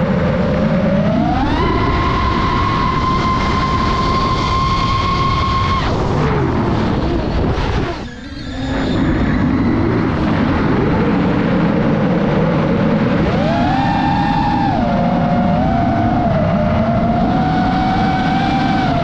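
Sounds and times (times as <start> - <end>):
drone motors whining: 0.0 - 19.0
wind rush: 0.0 - 19.0.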